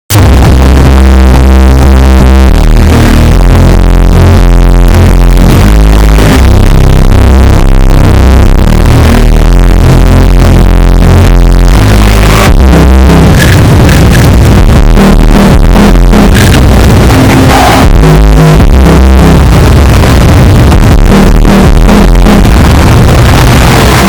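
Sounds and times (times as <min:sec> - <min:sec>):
distorted bass-boosted electronic pop: 0:00.0 - 0:24.0.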